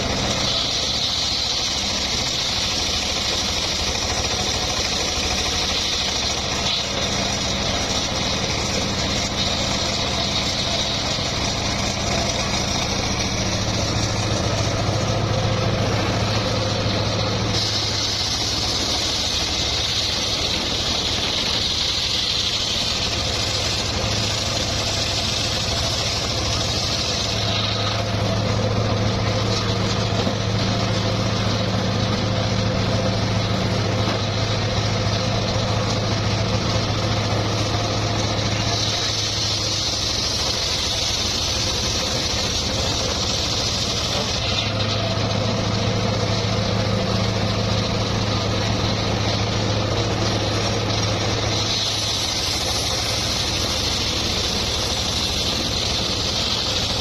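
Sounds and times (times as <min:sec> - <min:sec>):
saw blade cutting log: 0:00.0 - 0:57.0
sawmill engine humming: 0:00.0 - 0:57.0.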